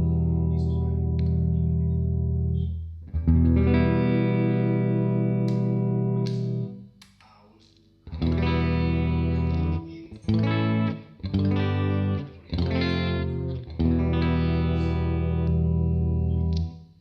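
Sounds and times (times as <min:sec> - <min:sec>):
electric guitar chords: 0:00.0 - 0:06.8, 0:08.0 - 0:16.8.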